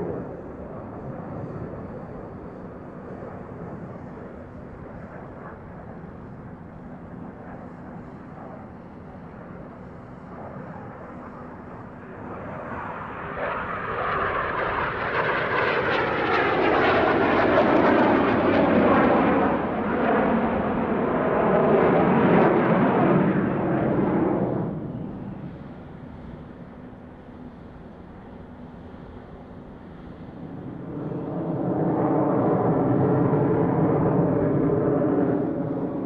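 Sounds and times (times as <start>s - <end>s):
jet engines roaring: 0.0s - 36.0s.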